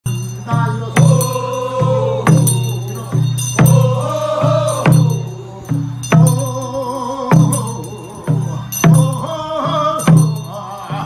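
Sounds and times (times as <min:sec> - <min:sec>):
barrel drum beating: 0:00.1 - 0:09.3
group of voices singing: 0:00.1 - 0:11.0.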